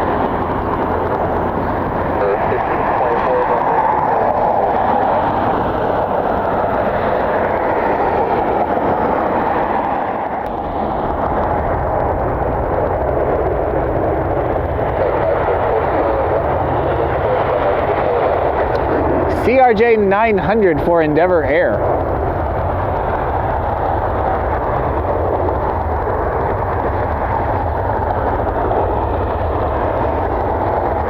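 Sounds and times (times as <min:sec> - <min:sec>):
jet engines at high power: 0:00.0 - 0:31.0.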